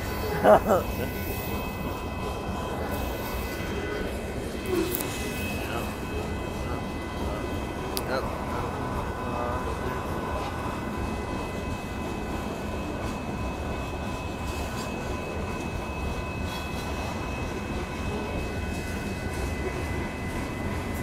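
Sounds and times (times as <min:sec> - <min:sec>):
steel wheels rumbling on rail: 0:00.0 - 0:21.0.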